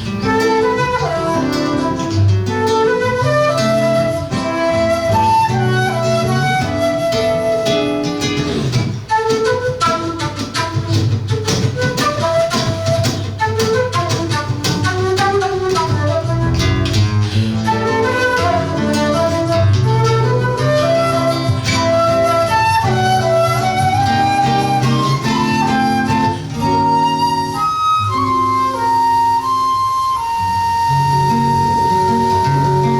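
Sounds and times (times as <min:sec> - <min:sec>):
acoustic guitar chords: 0:00.0 - 0:32.9
flute melody: 0:00.0 - 0:32.9.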